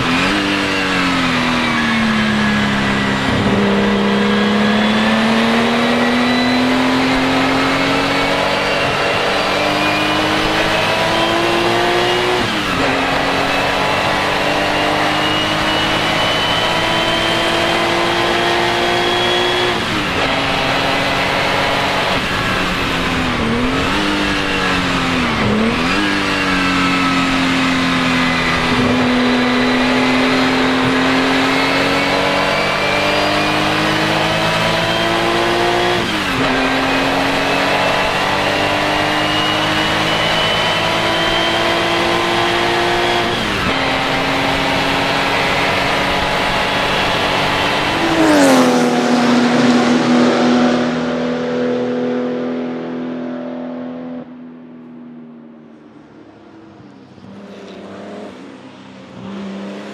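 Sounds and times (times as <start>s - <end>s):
racing engine revving through gears: 0.0s - 54.3s, 57.2s - 59.9s
engine blipping on downshifts: 0.0s - 59.9s.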